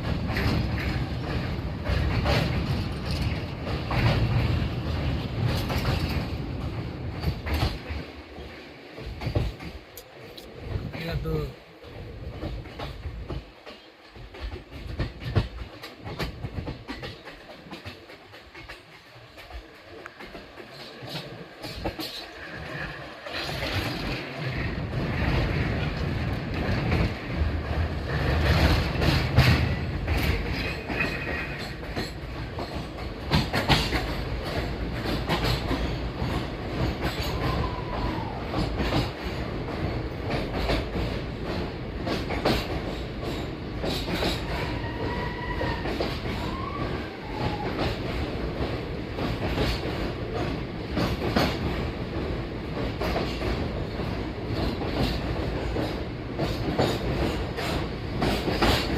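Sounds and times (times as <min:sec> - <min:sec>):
train wheels clattering: 0:00.0 - 0:58.9.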